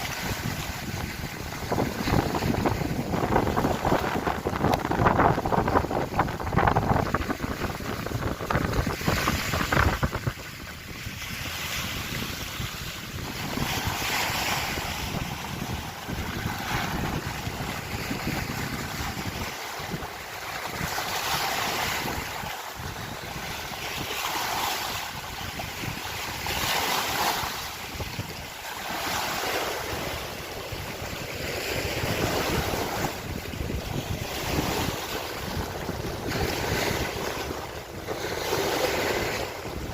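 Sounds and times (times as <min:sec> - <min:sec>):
lake waves washing ashore: 0:00.0 - 0:39.9
wind buffeting microphone: 0:00.0 - 0:39.9.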